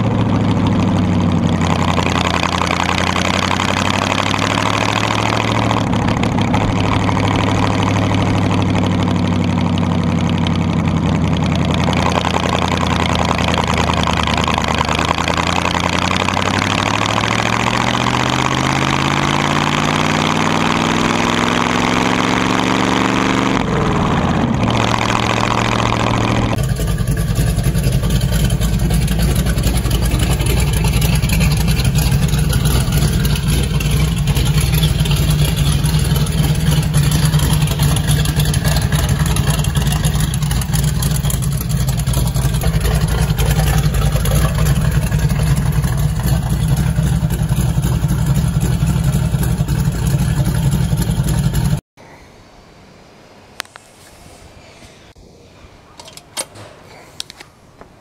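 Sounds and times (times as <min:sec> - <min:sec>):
engine running steadily: 0:00.0 - 0:51.8
hot rod engine accelerating: 0:00.0 - 0:51.8.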